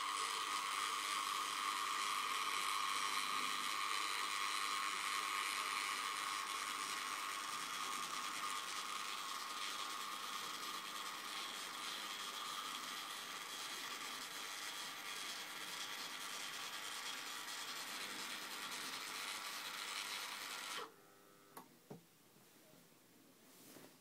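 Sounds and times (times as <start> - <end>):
motor and gearbox whirring: 0.0 - 21.6.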